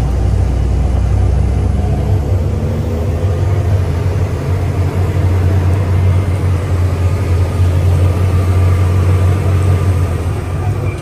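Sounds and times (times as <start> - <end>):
engine droning from inside cab: 0.0 - 11.0.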